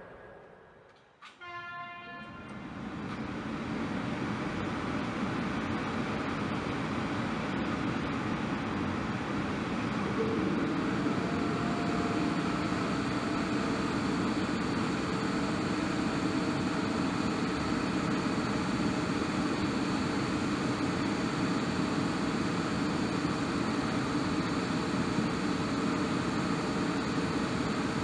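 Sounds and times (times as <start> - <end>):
electric locomotive machinery hum: 0.0 - 28.0.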